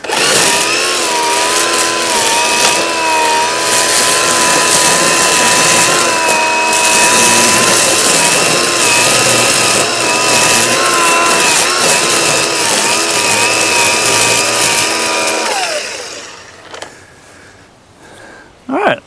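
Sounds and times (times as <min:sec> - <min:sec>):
string trimmer whining: 0:00.0 - 0:17.1.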